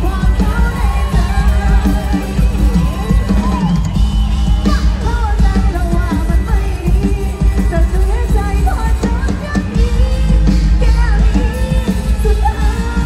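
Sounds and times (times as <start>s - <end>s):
woman singing into microphone: 0.0s - 3.2s, 4.6s - 13.0s
electric guitars: 0.0s - 13.0s
heavy bass: 0.0s - 13.0s.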